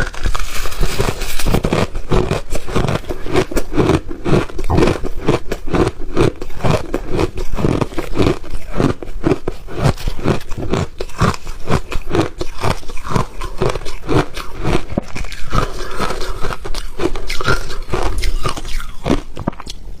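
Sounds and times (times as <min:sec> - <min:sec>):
ice being chewed: 0:00.0 - 0:19.8.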